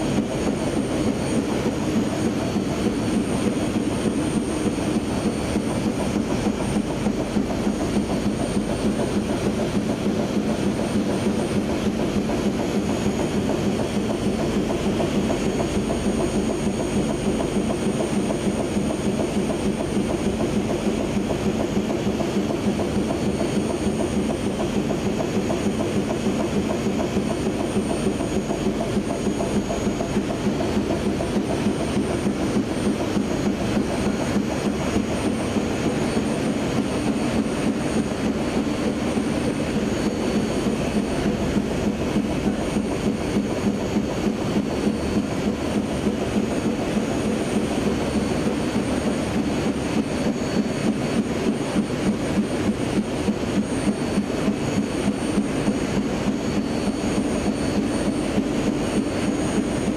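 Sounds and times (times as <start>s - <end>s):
machine clattering rhythmically: 0.0s - 59.9s.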